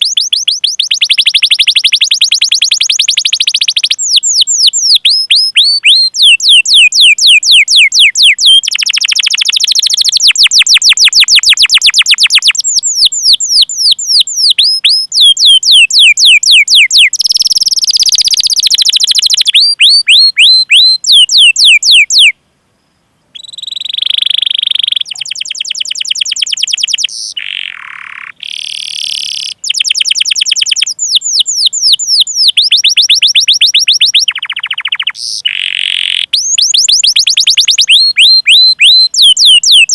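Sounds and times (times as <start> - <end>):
canary singing: 0.0 - 22.4, 23.3 - 39.9.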